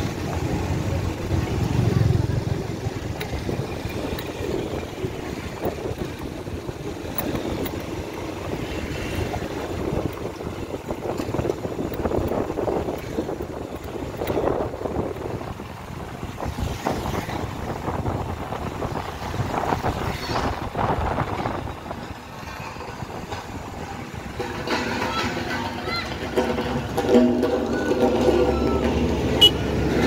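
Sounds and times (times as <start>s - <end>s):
wind buffeting microphone: 0.0s - 25.9s
motorcycle road and engine noise: 0.0s - 30.0s.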